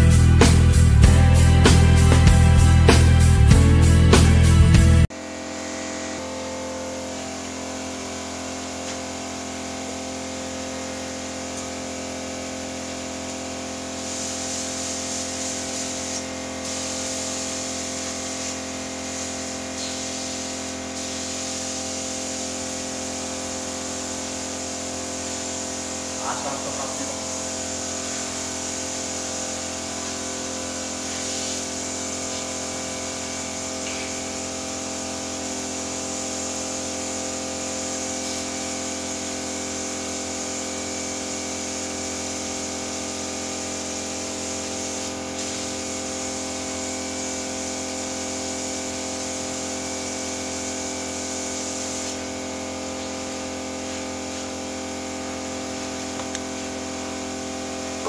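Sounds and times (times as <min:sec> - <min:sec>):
mechanical hum: 0:05.0 - 0:58.0.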